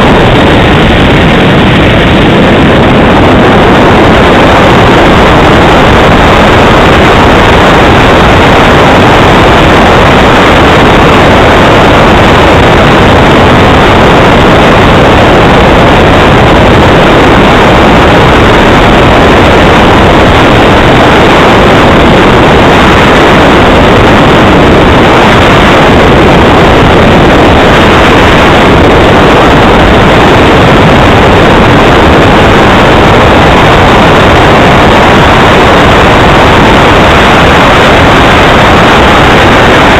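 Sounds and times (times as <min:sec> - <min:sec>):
model jet engine running: 0:00.0 - 0:39.9.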